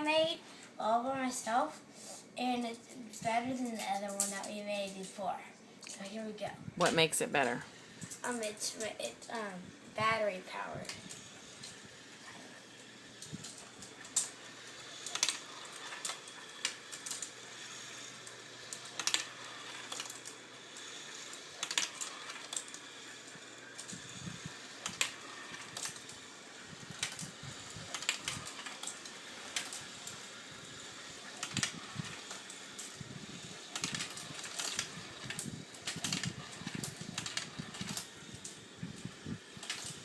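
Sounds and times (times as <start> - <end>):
small electric motor hum: 7.5 - 40.0.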